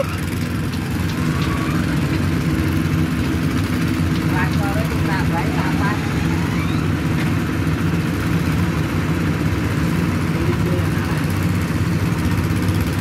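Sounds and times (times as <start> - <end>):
diesel engines rumbling: 0.0 - 13.0.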